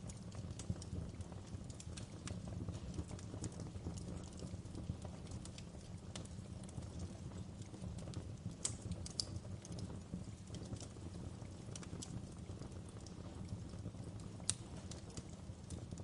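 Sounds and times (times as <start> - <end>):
fire crackling and popping: 0.0 - 16.0
low fire rumble: 0.0 - 16.0.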